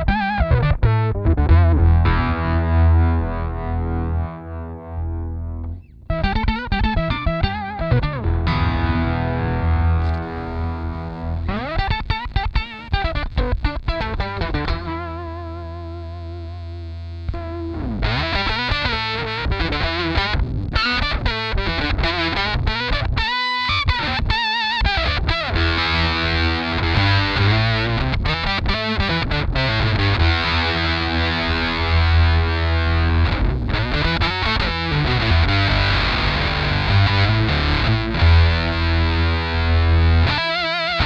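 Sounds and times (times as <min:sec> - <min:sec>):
electric guitar with octave effect: 0:00.0 - 0:41.0.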